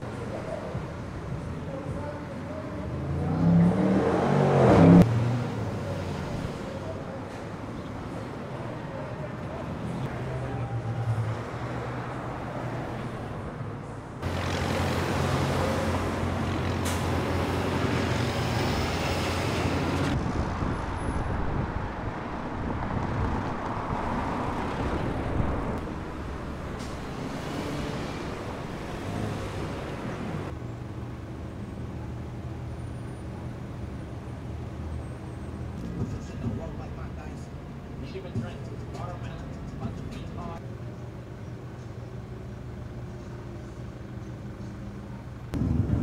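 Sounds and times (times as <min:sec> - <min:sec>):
large engine humming: 0:00.0 - 0:20.4, 0:25.2 - 0:46.0
vehicles passing: 0:00.0 - 0:46.0.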